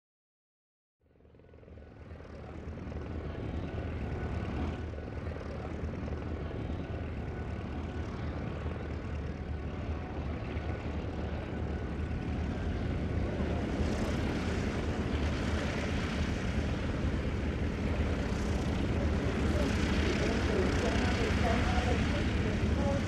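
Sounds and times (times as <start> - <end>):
low engine rumble: 2.0 - 23.0.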